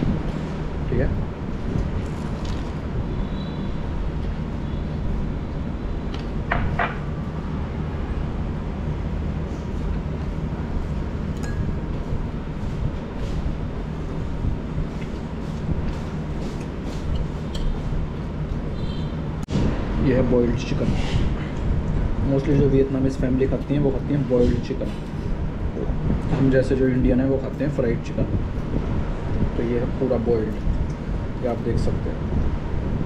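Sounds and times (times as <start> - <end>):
restaurant dining room hum: 0.0 - 33.0.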